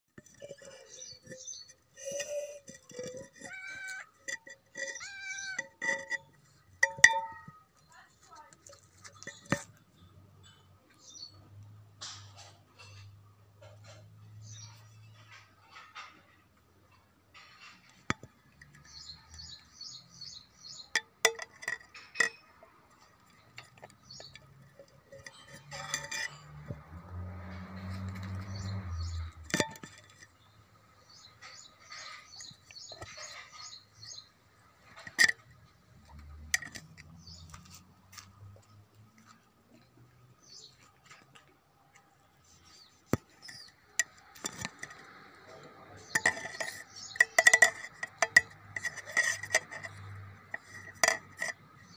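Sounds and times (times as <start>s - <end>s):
sharp clinks and knocks: 0.1s - 51.9s
small birds chirping: 0.2s - 6.6s, 7.2s - 11.6s, 13.8s - 16.1s, 16.9s - 26.5s, 28.1s - 35.8s, 36.7s - 37.9s, 38.6s - 41.3s, 42.4s - 51.9s.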